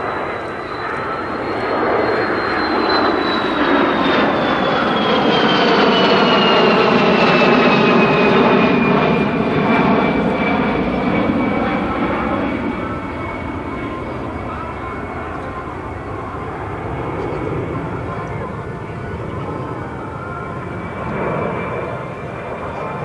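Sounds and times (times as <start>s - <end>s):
high jet engine whine: 0.0s - 23.0s
jet passing low overhead: 0.0s - 23.0s.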